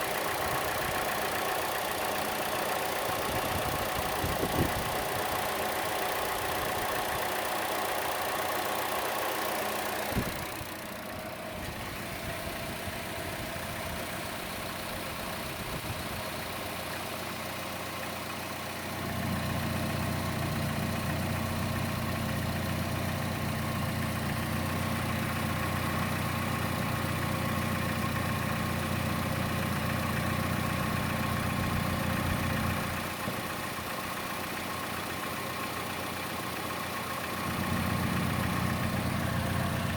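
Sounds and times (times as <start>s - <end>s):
car engine idling with ticking: 0.0s - 39.9s.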